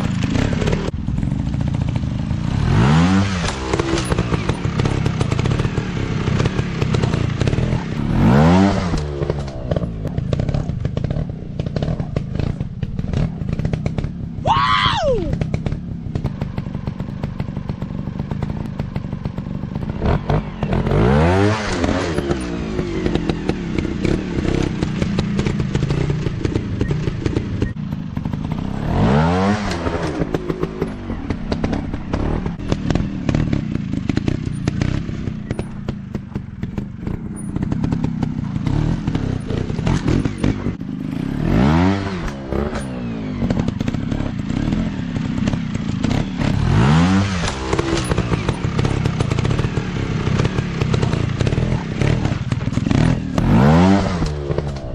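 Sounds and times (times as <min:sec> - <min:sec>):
bikes clattering and knocking: 0:00.0 - 0:54.9
dirt bike engines revving: 0:00.0 - 0:54.9.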